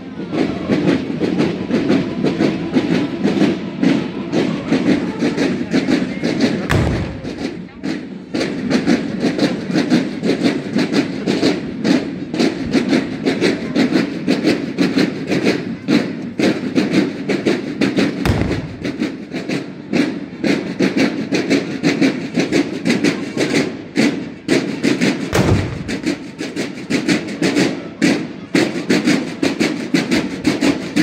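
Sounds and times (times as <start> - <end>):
marching drums beating: 0.0 - 31.0.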